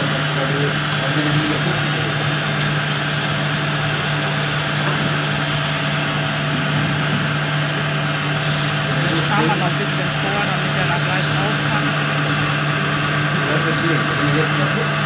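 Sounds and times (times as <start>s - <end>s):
constant low hum: 0.0s - 15.0s
mechanical drone of model machines: 0.0s - 15.0s.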